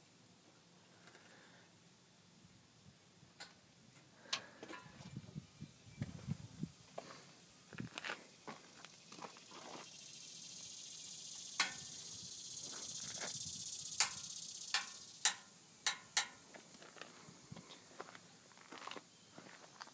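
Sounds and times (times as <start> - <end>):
steady high hiss: 0.0 - 19.9.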